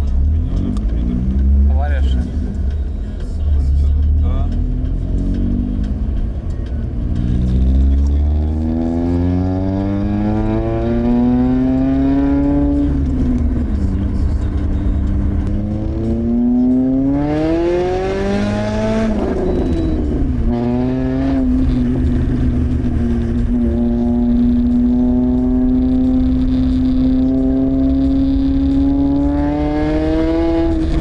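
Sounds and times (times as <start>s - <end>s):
loud open exhaust car engine: 0.0s - 31.0s.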